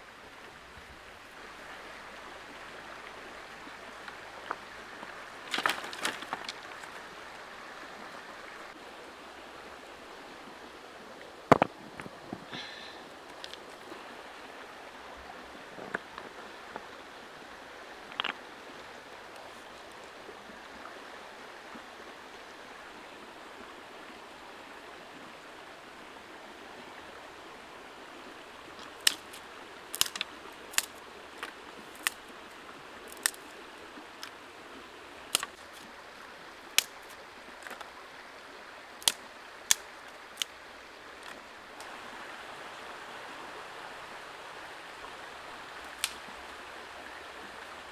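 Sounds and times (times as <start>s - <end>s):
stream running over rocks: 0.0s - 47.9s.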